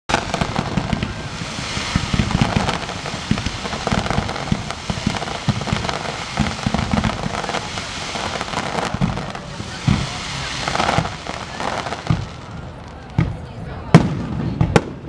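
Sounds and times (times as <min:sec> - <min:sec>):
fireworks crackling: 0:00.0 - 0:15.0
fireworks booming: 0:00.1 - 0:15.0.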